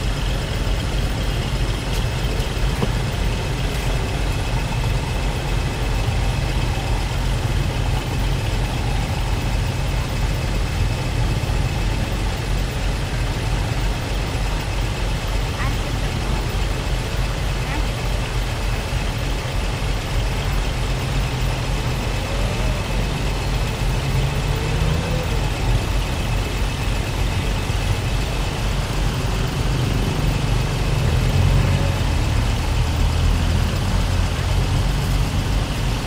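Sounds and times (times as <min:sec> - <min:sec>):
idling bus engines: 0:00.0 - 0:36.0
street noise: 0:00.0 - 0:36.0.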